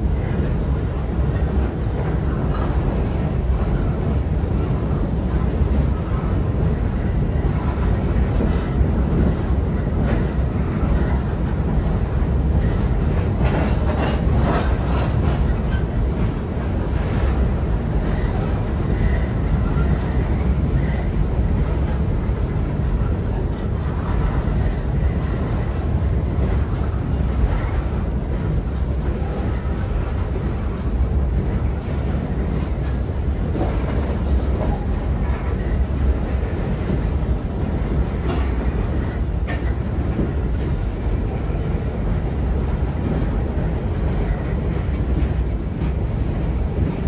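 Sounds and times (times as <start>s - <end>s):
train cars clanking: 0.0s - 47.0s
train wheels rumbling on rails: 0.0s - 47.0s.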